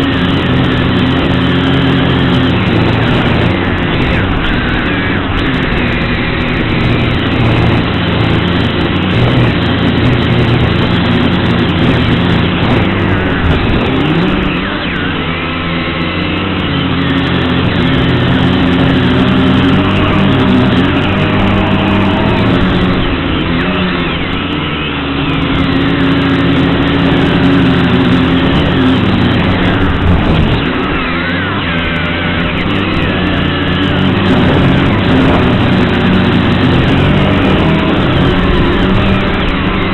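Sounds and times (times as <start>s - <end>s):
quadcopter propellers whirring: 0.0s - 39.9s.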